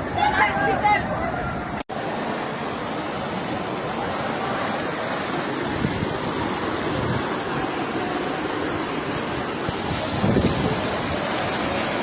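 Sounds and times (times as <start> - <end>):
floodwater rushing down a street: 0.0 - 12.0.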